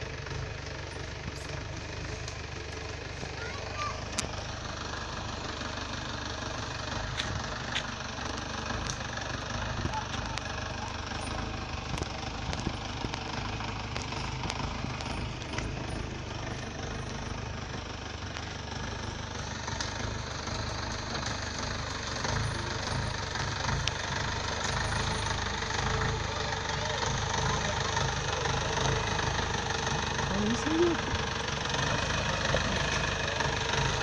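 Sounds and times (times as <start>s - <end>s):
jeep engine climbing: 0.0s - 34.0s.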